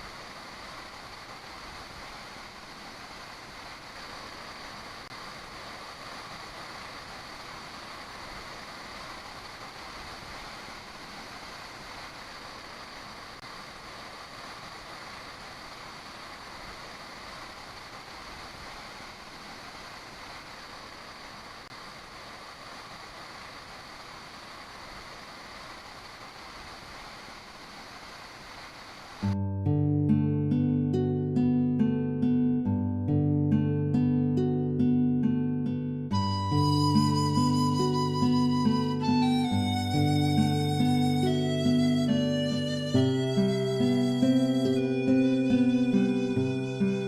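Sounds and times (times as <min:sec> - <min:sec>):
waterfall rushing: 0:00.0 - 0:29.4, 0:36.1 - 0:47.0.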